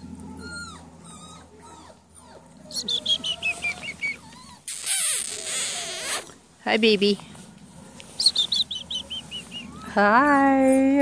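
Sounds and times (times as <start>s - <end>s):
puppy whining: 0.0s - 6.4s, 8.2s - 11.0s
puppy yelping: 0.0s - 6.4s, 8.2s - 10.9s.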